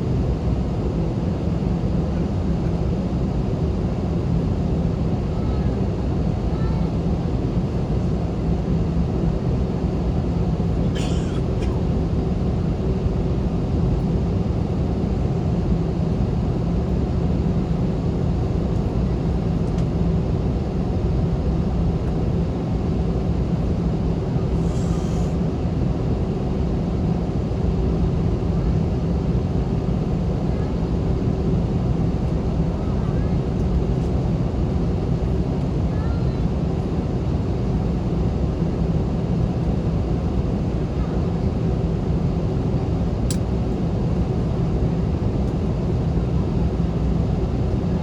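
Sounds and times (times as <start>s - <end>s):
jet engines humming in cabin: 0.0s - 48.0s.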